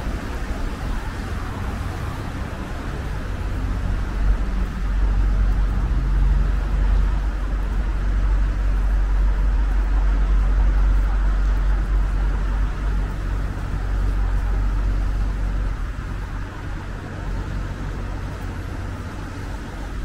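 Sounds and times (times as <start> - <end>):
engine hum: 0.0 - 20.0
traffic rumble: 0.0 - 20.0.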